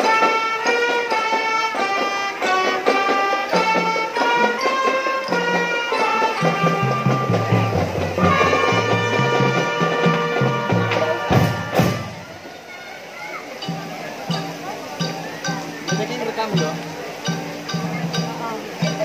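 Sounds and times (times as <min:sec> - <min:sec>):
marching drum band playing: 0:00.0 - 0:12.7, 0:13.5 - 0:19.0.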